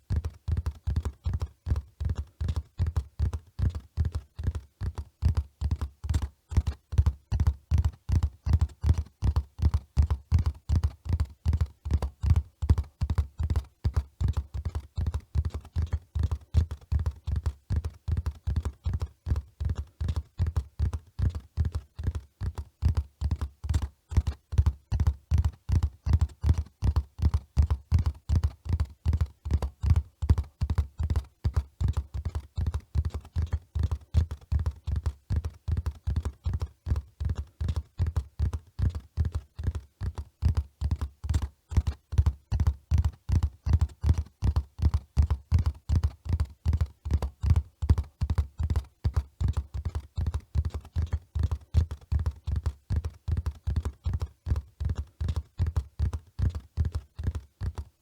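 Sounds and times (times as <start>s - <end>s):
horse hoofbeats at a run: 0.0s - 58.0s.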